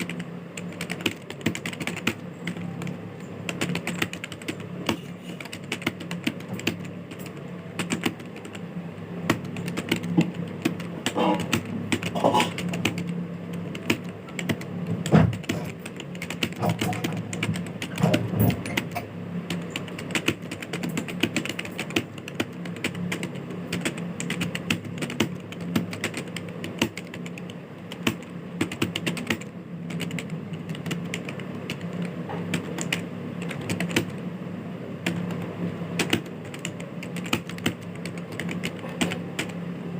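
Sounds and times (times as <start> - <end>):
fast keyboard typing: 0.0 - 34.2, 35.0 - 39.6.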